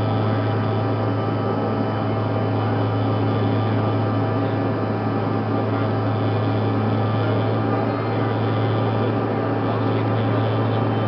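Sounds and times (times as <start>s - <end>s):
aircraft cabin low hum: 0.0s - 11.0s
jet engine whining tones: 0.0s - 11.0s.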